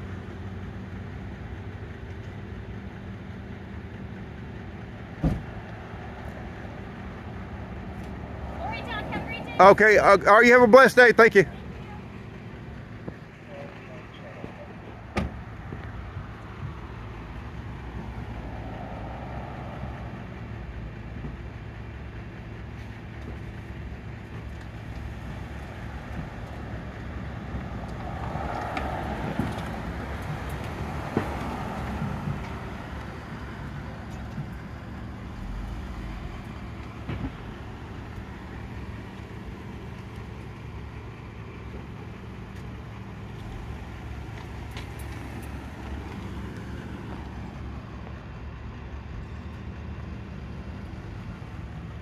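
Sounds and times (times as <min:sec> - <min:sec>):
car engine idling: 0:00.0 - 0:52.0
passing road traffic: 0:00.0 - 0:52.0.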